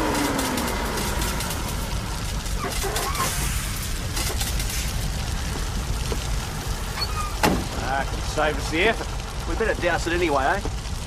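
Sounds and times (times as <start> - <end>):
rush of flames: 0.0 - 11.0
wood crackling and popping: 0.0 - 11.0.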